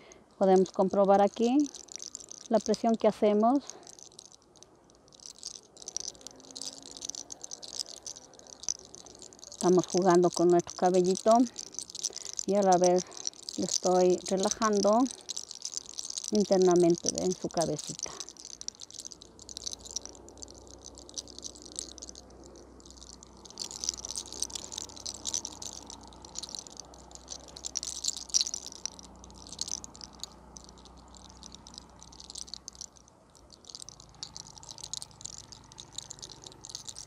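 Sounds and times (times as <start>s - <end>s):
hair crackling and rustling: 0.0s - 37.0s.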